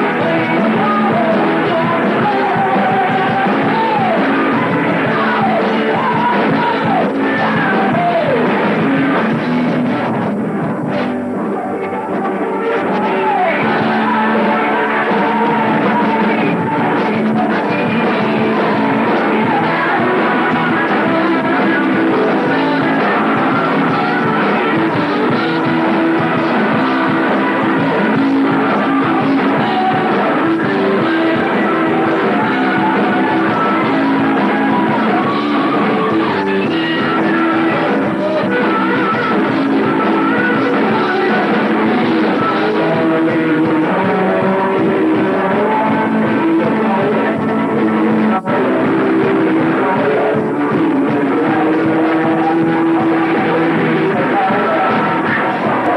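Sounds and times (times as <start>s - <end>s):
heavy metal band playing: 0.0s - 55.9s.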